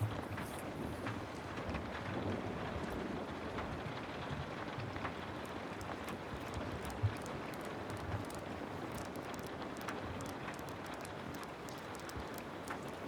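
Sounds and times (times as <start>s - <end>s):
steady rain patter: 0.0s - 13.0s.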